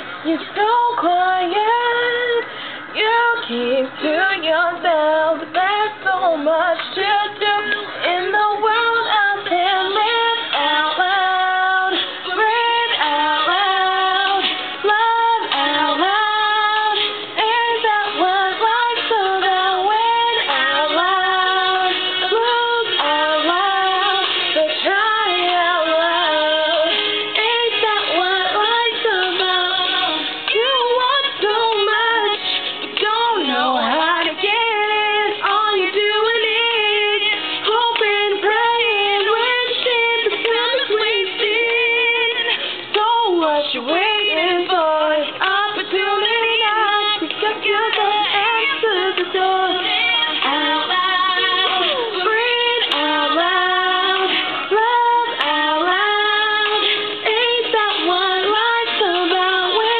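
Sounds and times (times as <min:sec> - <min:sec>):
girl singing: 0:00.0 - 0:59.9.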